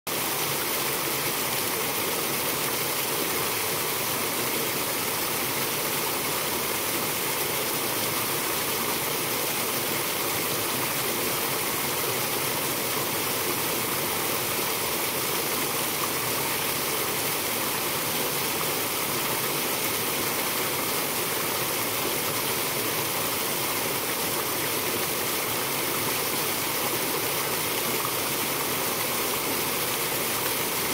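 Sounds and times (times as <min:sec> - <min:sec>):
small waterfall splashing: 0:00.1 - 0:30.9.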